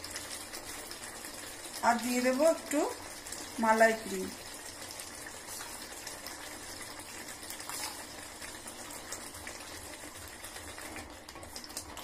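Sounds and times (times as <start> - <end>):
thick gravy bubbling in pot: 0.0 - 12.0.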